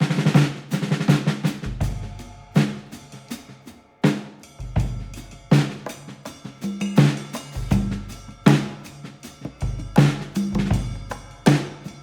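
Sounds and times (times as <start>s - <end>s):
drum-heavy music with bass: 0.0s - 12.0s.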